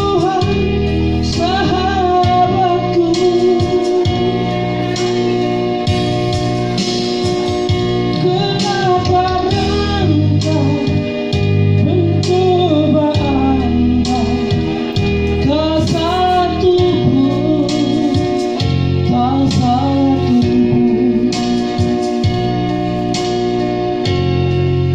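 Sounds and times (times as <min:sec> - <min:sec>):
person singing: 0:00.0 - 0:22.4
guitar accompaniment: 0:00.0 - 0:24.9.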